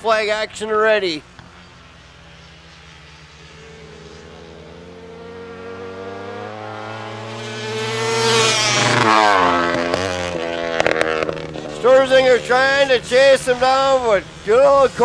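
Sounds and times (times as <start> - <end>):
racing motorcycles passing by: 0.0 - 15.0.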